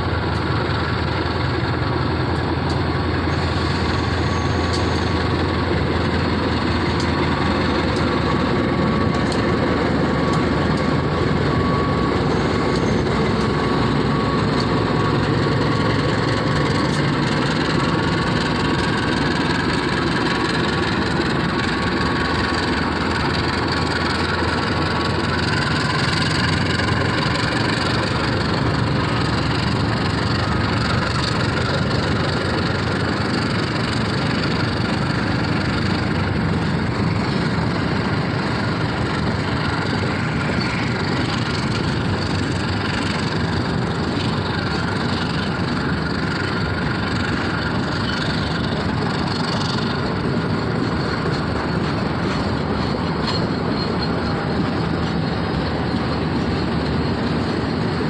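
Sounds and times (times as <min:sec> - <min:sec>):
diesel train engine and rolling: 0:00.0 - 0:58.0.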